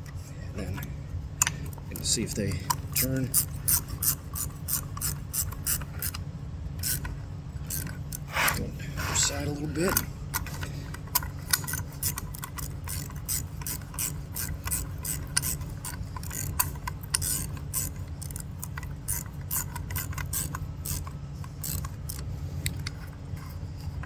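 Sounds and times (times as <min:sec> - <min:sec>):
steady low hum: 0:00.0 - 0:24.0
ratchet wrench clicking: 0:02.1 - 0:06.2, 0:06.8 - 0:08.6, 0:09.8 - 0:24.0.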